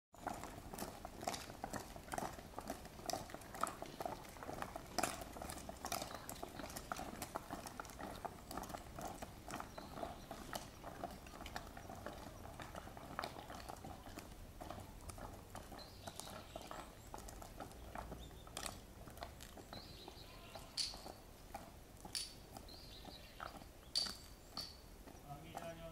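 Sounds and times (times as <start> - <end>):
footsteps on gravel and stone: 0.2 - 25.9.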